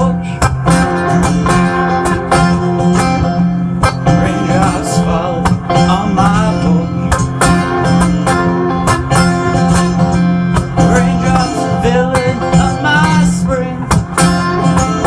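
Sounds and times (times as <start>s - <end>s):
acoustic guitar playing: 0.0s - 15.0s
bass: 0.0s - 15.0s.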